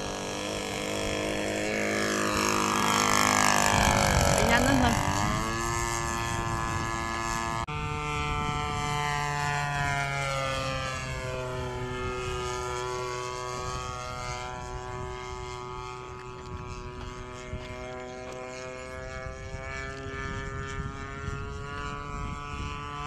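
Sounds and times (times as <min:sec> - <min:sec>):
model airplane motor and propeller: 0:00.0 - 0:23.0.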